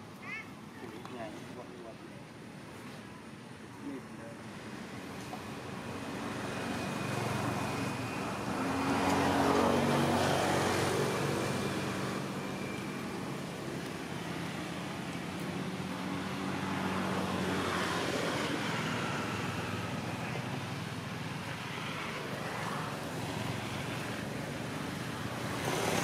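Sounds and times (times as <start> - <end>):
steady low traffic hum: 0.0 - 26.0.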